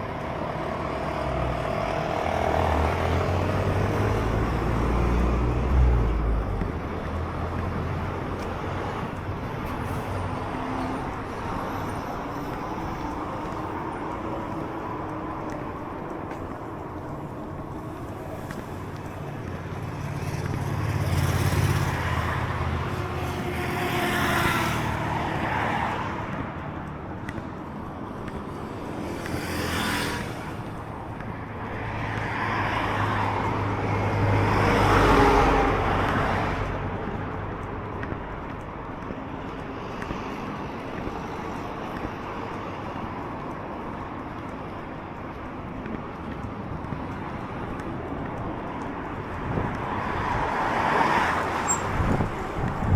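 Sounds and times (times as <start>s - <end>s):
road noise: 0.0s - 52.9s
vehicles driving past: 0.0s - 52.9s.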